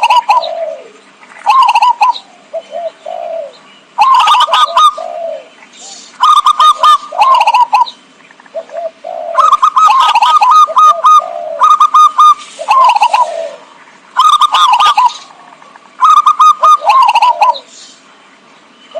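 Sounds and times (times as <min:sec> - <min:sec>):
doves cooing: 0:00.0 - 0:17.8.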